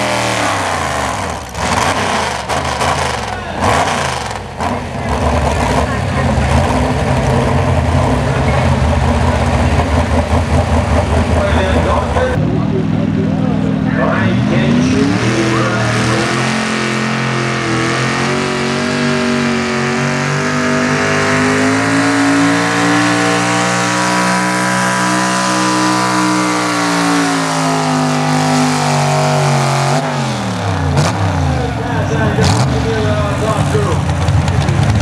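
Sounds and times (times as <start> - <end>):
tractor engine at full throttle: 0.0 - 35.0.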